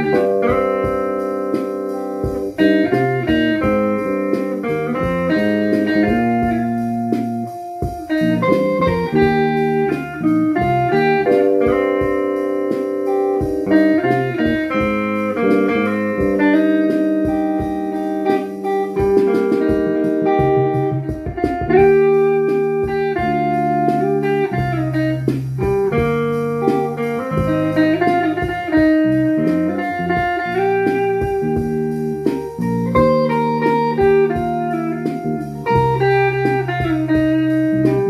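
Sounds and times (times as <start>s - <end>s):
guitar music: 0.0s - 38.0s.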